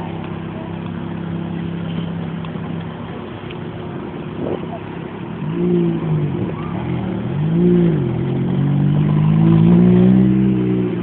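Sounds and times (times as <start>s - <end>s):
car engine revving: 0.3s - 11.0s.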